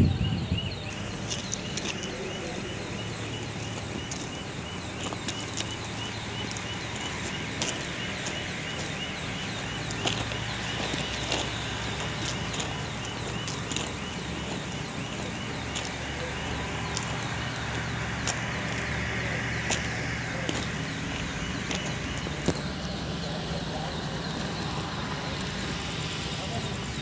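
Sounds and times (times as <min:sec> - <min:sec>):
diesel engine drone: 0:00.0 - 0:27.0
faint chirping: 0:00.0 - 0:27.0
site noise: 0:00.0 - 0:27.0.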